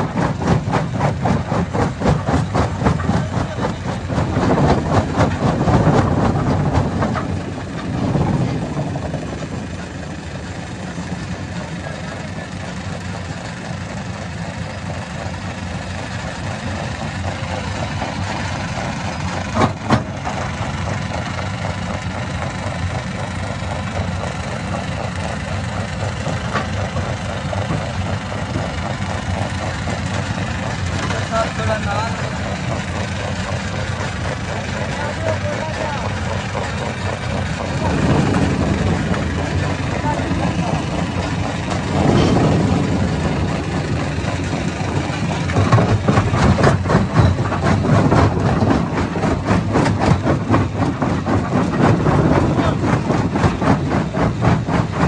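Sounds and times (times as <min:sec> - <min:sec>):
stone crusher machine drone: 0:00.0 - 0:55.0.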